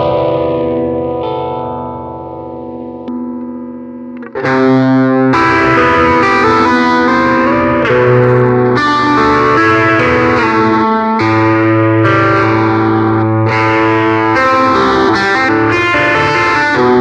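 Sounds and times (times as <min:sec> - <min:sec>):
electric guitar chords with phaser: 0:00.0 - 0:17.0.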